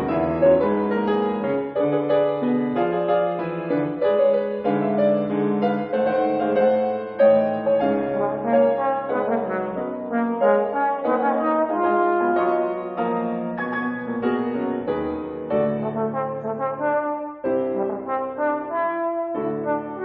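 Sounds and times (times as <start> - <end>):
piano accompaniment: 0.0 - 20.0
trombone melody: 0.0 - 20.0.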